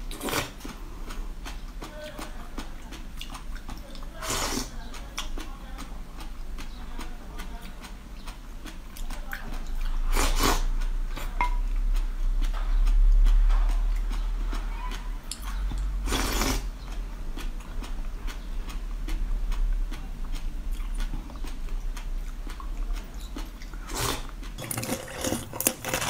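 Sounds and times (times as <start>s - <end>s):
chewing with crackling clicks: 0.0s - 26.0s.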